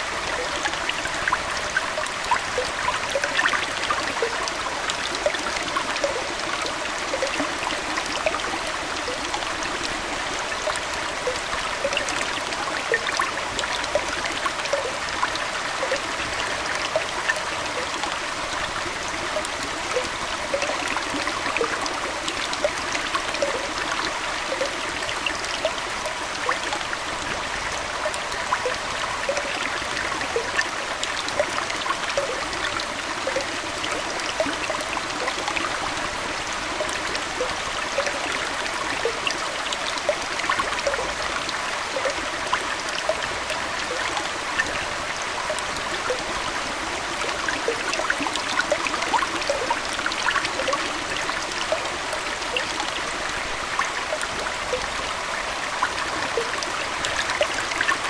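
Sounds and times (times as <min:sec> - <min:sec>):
aquarium water trickling: 0:00.0 - 0:58.0
bubbling plinks: 0:00.2 - 0:55.1, 0:55.8 - 0:58.0.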